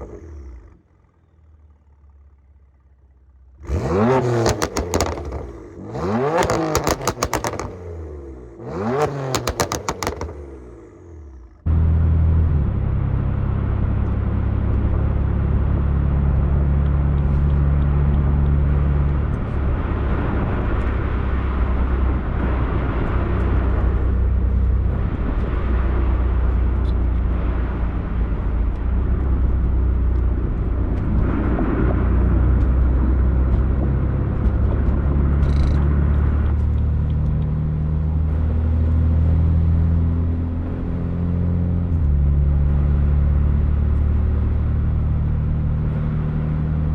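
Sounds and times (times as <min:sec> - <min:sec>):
car exhaust deep drone: 0:00.0 - 0:46.9.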